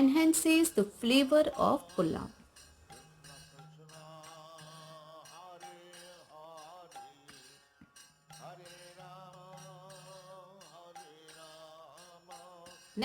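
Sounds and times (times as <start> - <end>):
chanted devotional melody: 0.1 - 13.0.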